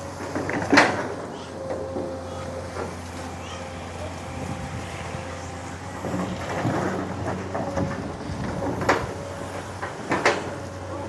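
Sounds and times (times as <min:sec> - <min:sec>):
excavator diesel engine: 0:00.0 - 0:11.0.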